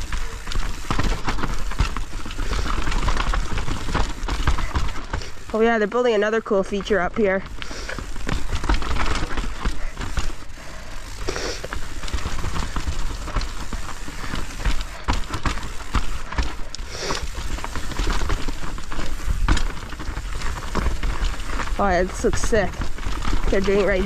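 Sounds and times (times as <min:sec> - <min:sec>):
bike knocks and clatters: 0:00.0 - 0:24.0
bike tyre rush with low rumble: 0:00.0 - 0:24.0.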